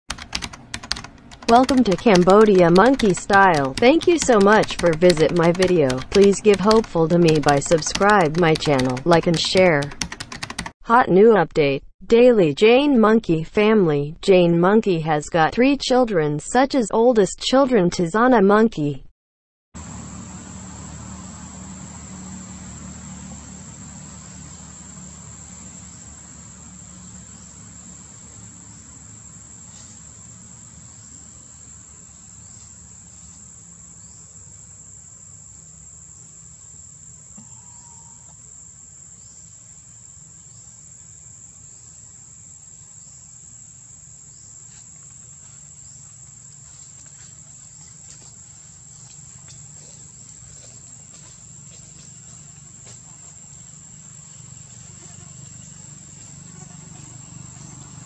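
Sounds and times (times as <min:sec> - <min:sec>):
insects droning: 0:00.2 - 0:10.3, 0:19.8 - 0:58.0.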